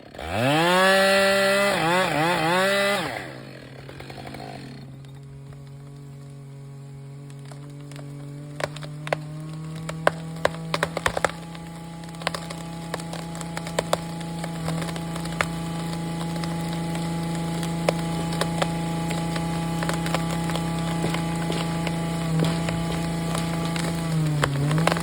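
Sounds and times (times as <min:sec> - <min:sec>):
wood cracking and splintering: 0:00.0 - 0:25.0
engine humming: 0:02.6 - 0:25.0.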